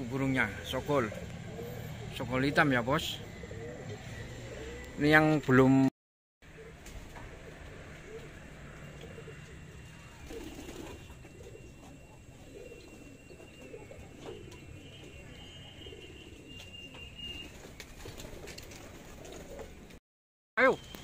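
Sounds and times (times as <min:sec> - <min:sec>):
pigeons cooing: 0:00.3 - 0:05.0, 0:06.5 - 0:20.0.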